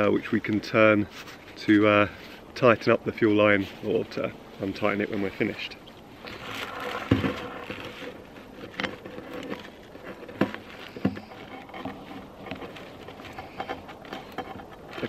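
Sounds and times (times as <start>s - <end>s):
gloves rustling: 1.1s - 15.0s.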